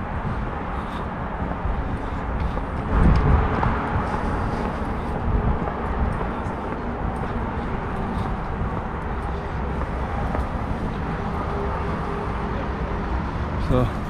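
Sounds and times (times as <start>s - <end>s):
low rumble: 0.0s - 13.7s.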